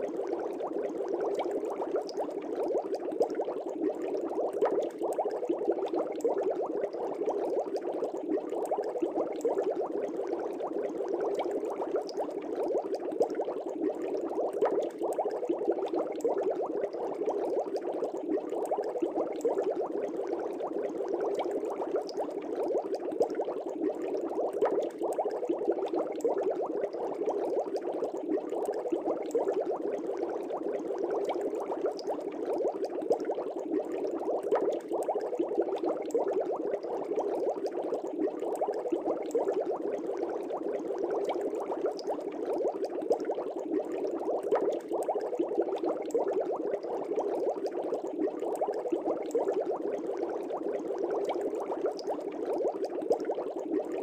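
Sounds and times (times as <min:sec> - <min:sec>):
aquarium air bubbles bubbling: 0:00.0 - 0:54.0.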